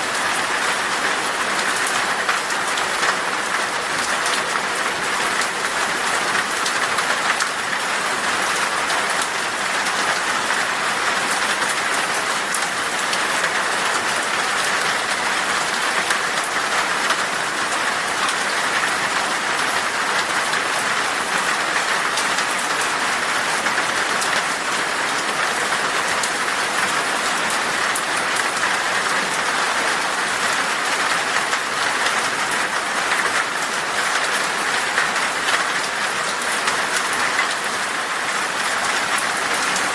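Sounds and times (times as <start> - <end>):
heavy rain on glass: 0.0 - 39.9.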